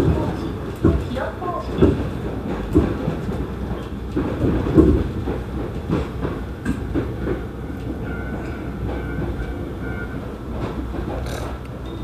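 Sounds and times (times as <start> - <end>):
train car knocks and jolts: 0.0 - 12.0
train wheels rumbling on track: 0.0 - 12.0.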